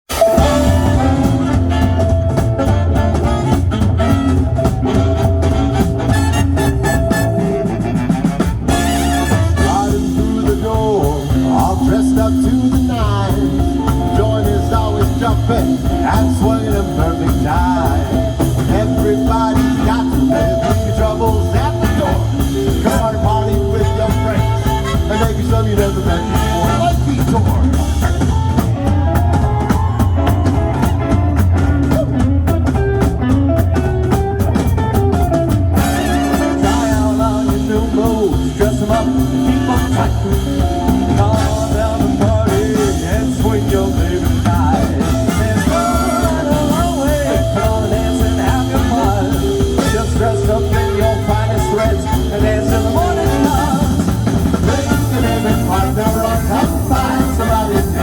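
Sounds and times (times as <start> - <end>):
drums beating: 0.0 - 58.0
rock band playing: 0.0 - 58.0
person singing: 0.1 - 58.0.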